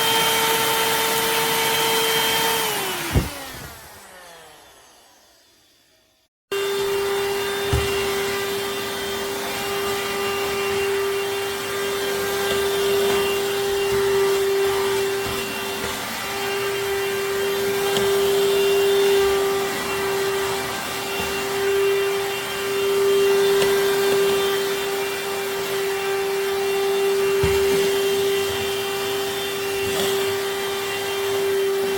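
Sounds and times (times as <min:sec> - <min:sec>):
handheld vacuum cleaner running: 0:00.0 - 0:31.9.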